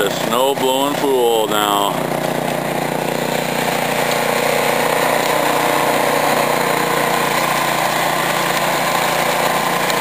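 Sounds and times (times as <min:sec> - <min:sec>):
snowblower engine running: 0:00.0 - 0:10.0.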